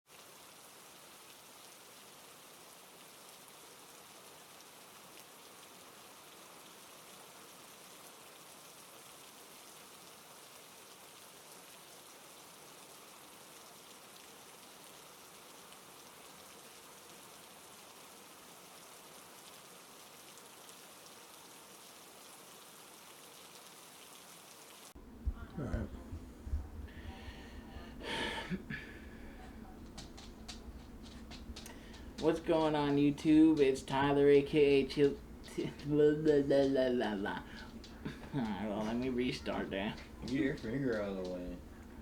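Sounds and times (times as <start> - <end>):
faint steady hiss: 0.1 - 42.0.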